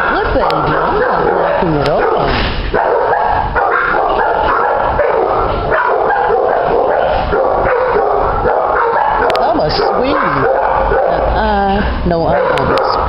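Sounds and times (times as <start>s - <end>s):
dogs barking and yipping: 0.0s - 11.5s, 12.2s - 13.0s.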